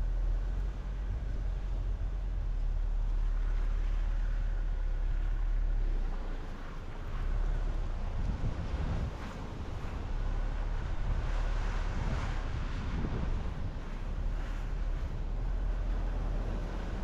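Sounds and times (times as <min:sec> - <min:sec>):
car driving on highway: 0:00.0 - 0:17.0
tyre and engine rumble: 0:00.0 - 0:17.0.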